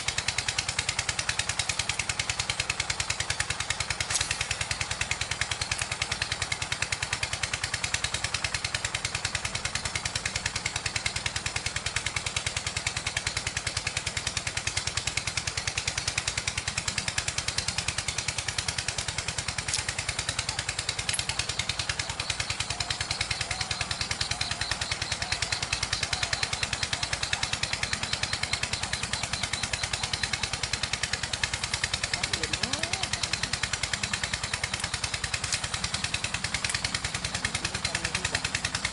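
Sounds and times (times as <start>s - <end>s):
small motorcycle engine running: 0.0s - 38.9s.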